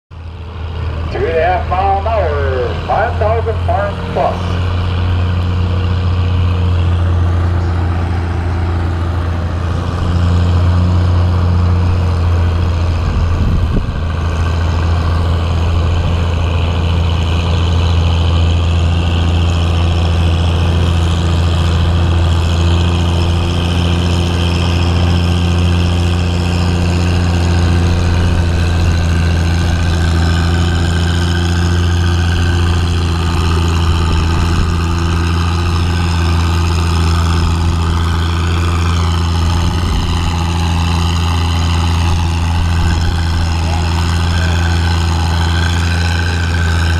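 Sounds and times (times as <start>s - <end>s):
tractor engine droning: 0.1s - 46.9s.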